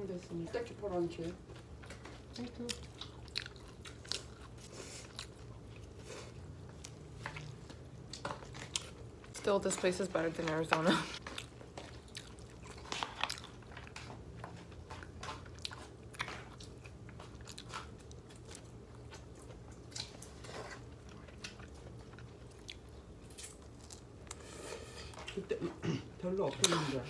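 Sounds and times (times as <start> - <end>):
person chewing and crunching food: 1.2 - 27.0.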